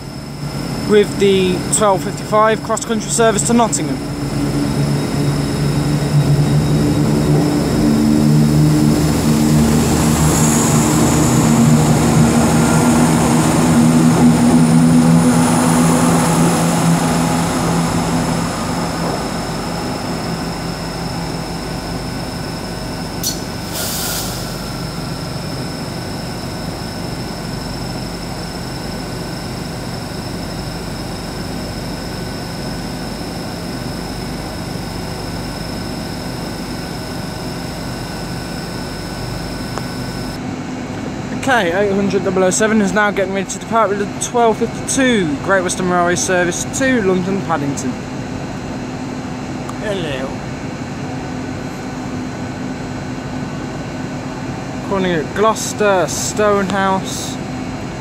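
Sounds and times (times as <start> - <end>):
diesel train engines pulling away: 0.0 - 50.5.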